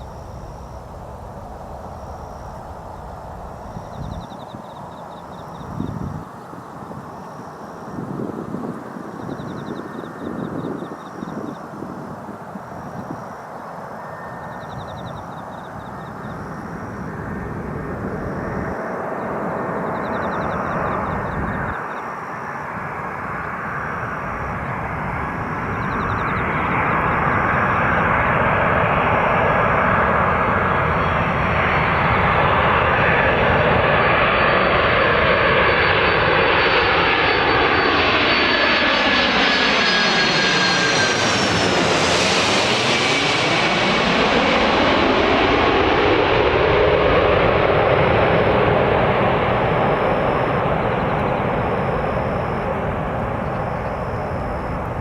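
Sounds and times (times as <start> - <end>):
jet engines passing close by: 0.0 - 55.0.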